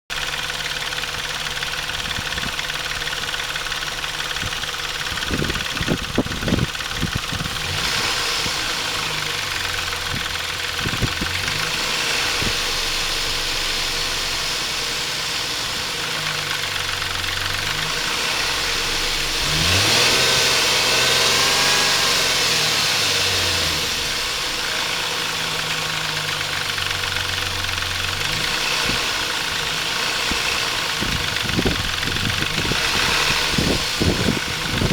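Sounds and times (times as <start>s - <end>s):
car engine idling: 0.0s - 34.9s
engine revving: 0.1s - 34.9s.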